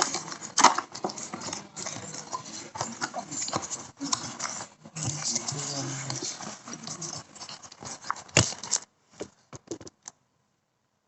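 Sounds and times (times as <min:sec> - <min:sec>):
packaging rustling: 0:00.0 - 0:10.1.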